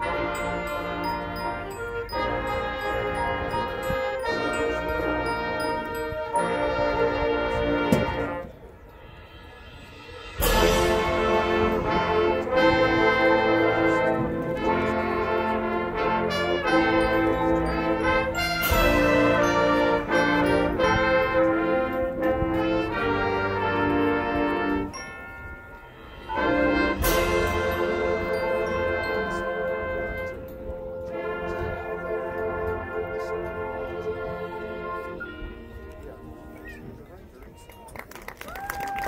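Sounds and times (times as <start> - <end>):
marching band brass chords: 0.0 - 36.7.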